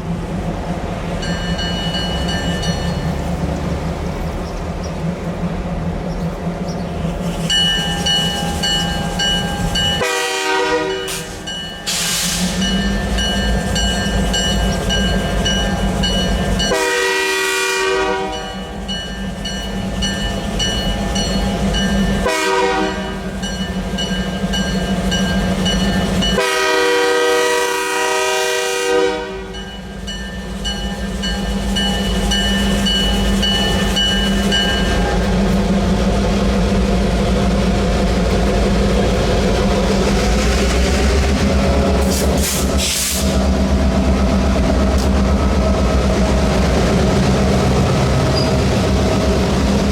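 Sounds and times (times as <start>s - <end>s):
diesel locomotive engine drone: 0.0s - 49.9s.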